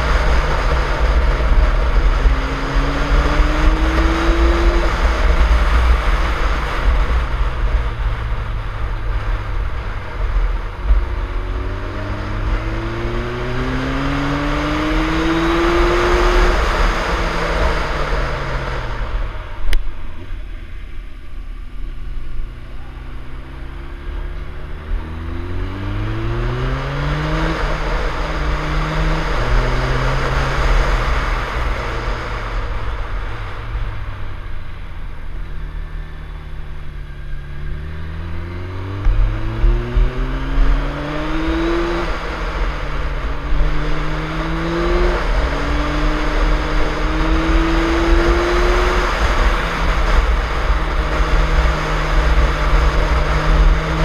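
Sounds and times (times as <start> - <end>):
wind rumble over microphone: 0.0 - 22.8, 23.4 - 54.0
motorcycle engine revving: 0.0 - 54.0.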